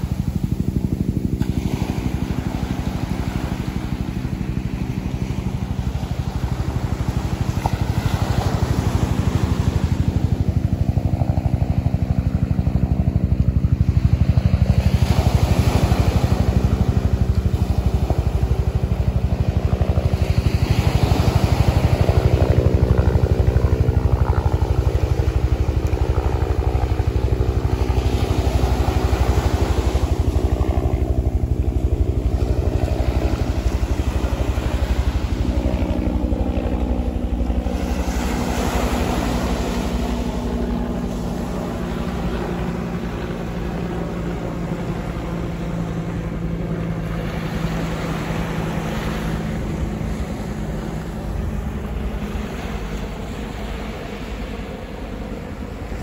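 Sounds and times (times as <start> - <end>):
engine running: 0.0 - 56.0
small waves washing on shore: 0.0 - 56.0.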